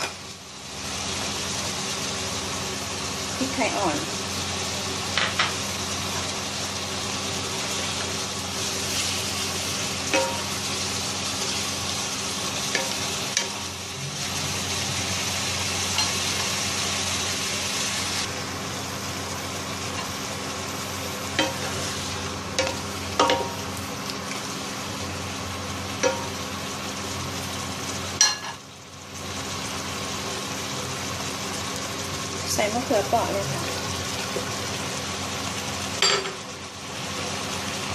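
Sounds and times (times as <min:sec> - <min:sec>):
fish sizzling in a wok: 0:00.0 - 0:37.9.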